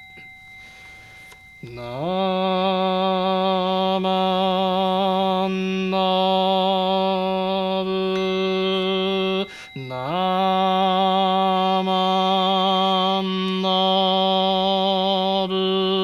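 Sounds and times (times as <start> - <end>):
man chanting a long tone: 1.6 - 16.0.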